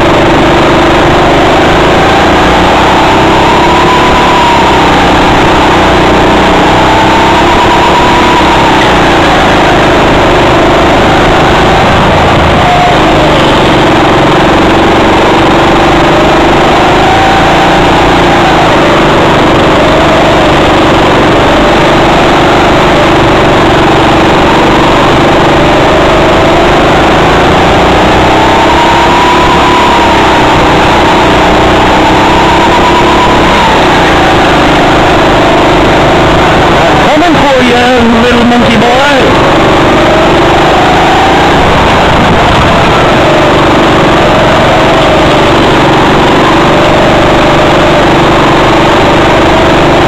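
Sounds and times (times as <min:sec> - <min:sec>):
go-kart engine running: 0:00.0 - 0:50.0.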